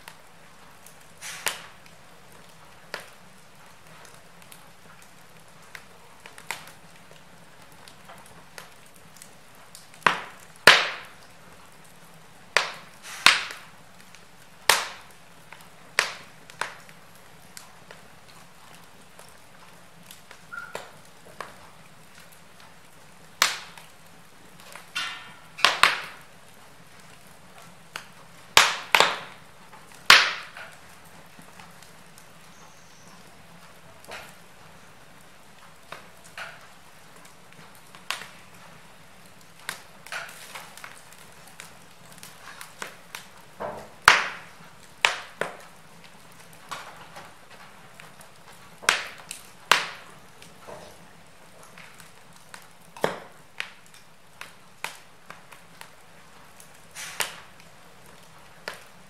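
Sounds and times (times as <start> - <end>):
fire hiss: 0.0 - 7.8, 8.4 - 59.0
logs crackling in fireplace: 0.0 - 59.0.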